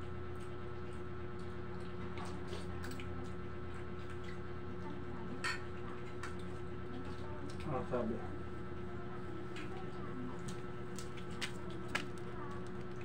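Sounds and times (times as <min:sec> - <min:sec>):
fan motor hum: 0:00.0 - 0:13.0
wet squishing of eating by hand: 0:00.0 - 0:13.0.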